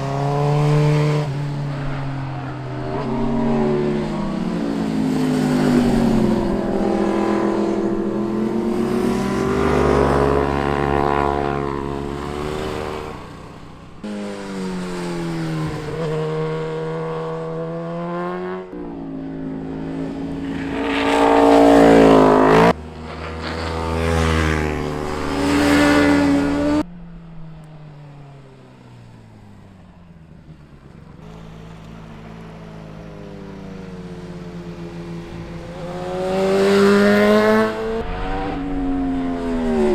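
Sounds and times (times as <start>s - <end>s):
motorcycles revving and passing: 0.0s - 39.9s.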